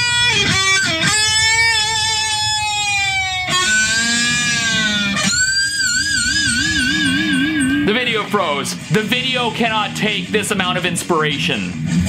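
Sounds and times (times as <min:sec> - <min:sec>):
electric guitar sustained notes: 0:00.0 - 0:12.0.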